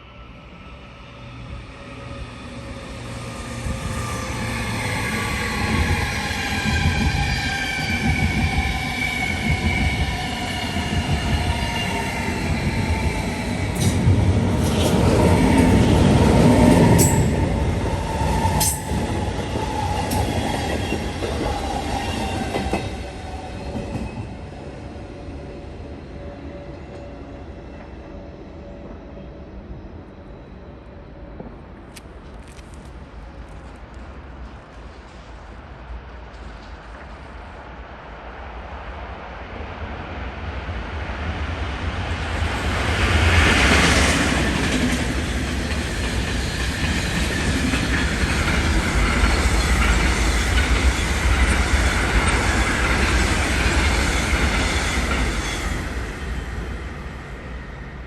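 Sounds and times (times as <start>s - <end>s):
electric train passing: 0.0s - 58.0s.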